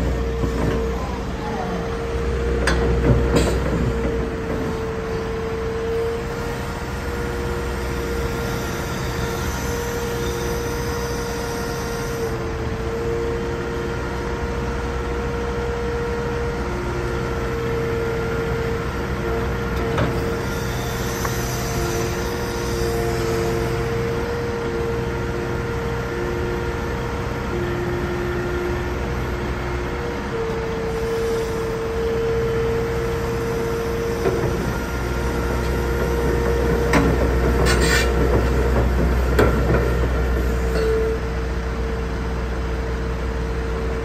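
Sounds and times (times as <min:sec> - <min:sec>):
diesel engine rumbling: 0:00.0 - 0:11.1, 0:12.4 - 0:44.0
hydraulic whine: 0:00.0 - 0:44.0.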